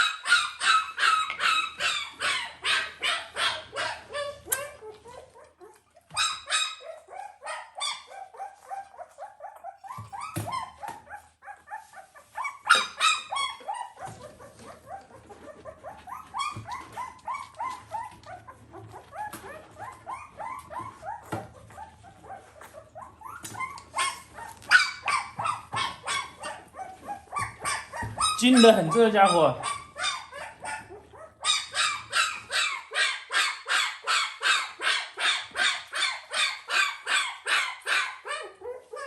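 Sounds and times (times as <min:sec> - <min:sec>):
puppy squealing and whining: 0:00.0 - 0:39.0.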